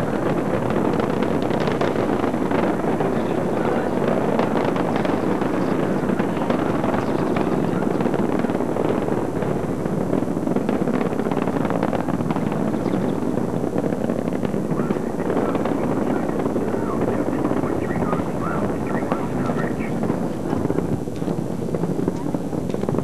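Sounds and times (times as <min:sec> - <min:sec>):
rocket engines rumbling with crackling: 0:00.0 - 0:23.0.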